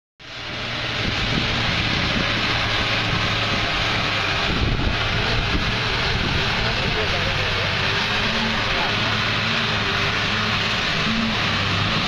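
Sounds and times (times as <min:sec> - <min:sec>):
vehicle engine humming: 0:00.2 - 0:12.0
wind or road noise hiss: 0:00.2 - 0:12.0.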